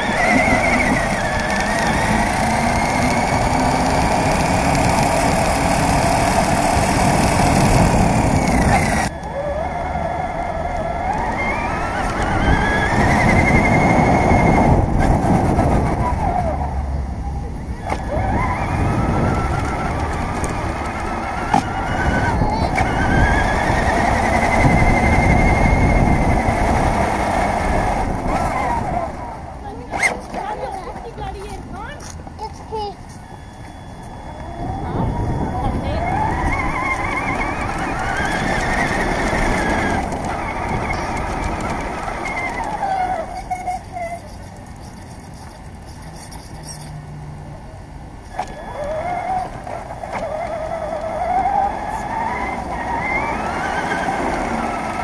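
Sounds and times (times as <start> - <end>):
toy truck motor whine: 0.0 - 16.7, 17.6 - 30.7, 31.8 - 47.2, 48.1 - 55.0
tyres rumbling on asphalt: 0.0 - 55.0.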